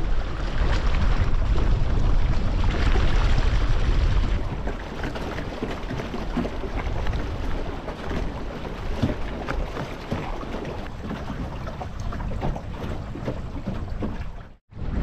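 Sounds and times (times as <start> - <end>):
water washing along hull: 0.0 - 15.0
waves slapping against bow: 0.0 - 15.0.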